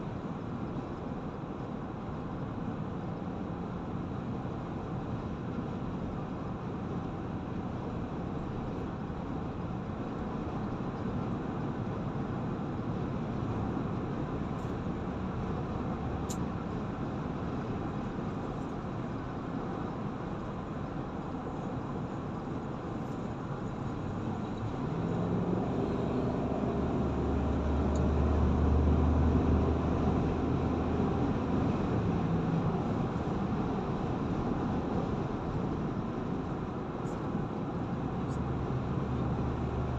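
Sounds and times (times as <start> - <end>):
car cabin road and engine noise: 0.0 - 39.9.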